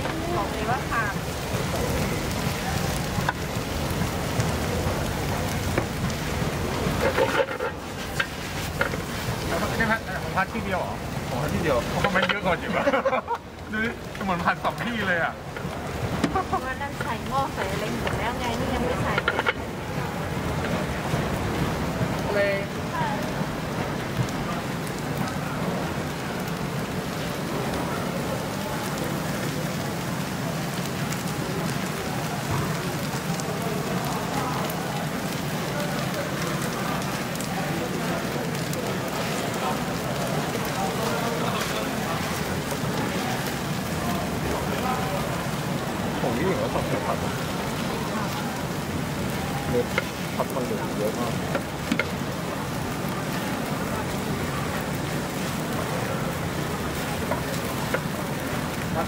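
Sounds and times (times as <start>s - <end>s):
noodles sizzling in a wok: 0.0s - 59.0s.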